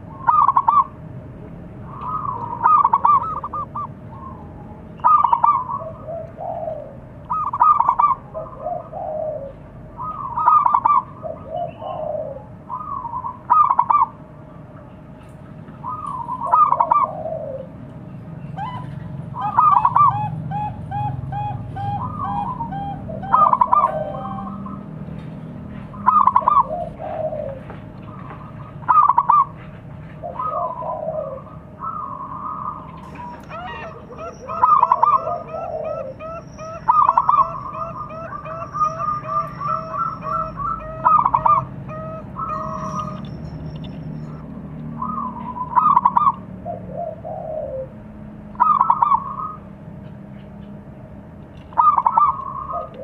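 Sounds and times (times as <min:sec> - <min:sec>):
dove cooing: 0:00.0 - 0:01.0, 0:01.8 - 0:14.2, 0:15.8 - 0:17.8, 0:18.4 - 0:25.0, 0:25.7 - 0:49.6, 0:51.7 - 0:53.0.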